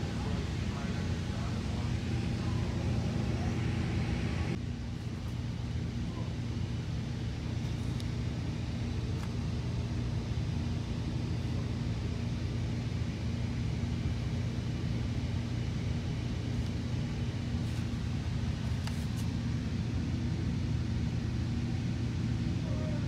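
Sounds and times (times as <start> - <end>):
train rumble and hum: 0.0 - 23.0.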